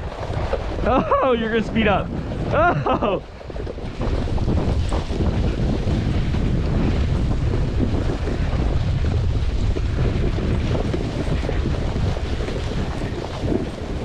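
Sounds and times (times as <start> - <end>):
snowboard riding over snow: 0.0 - 14.0
wind buffeting microphone: 0.0 - 14.0.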